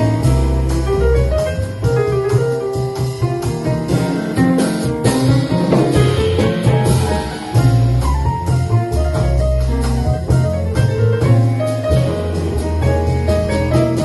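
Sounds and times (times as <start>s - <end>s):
double bass: 0.0s - 14.0s
light percussion: 0.0s - 14.0s
piano: 0.0s - 14.0s.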